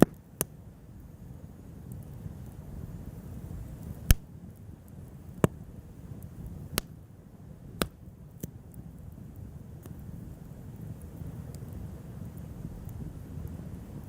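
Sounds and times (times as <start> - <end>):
campfire wood crackling and popping: 0.0 - 14.0
low steady rumble: 0.0 - 14.0.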